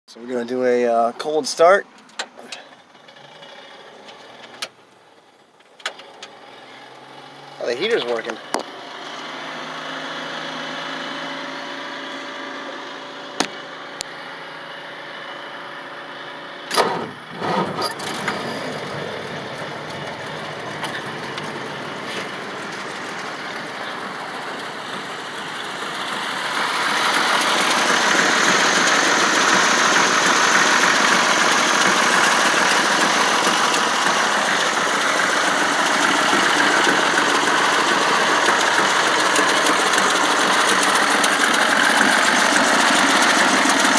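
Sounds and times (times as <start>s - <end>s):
car engine cranking and starting: 0.7s - 43.9s.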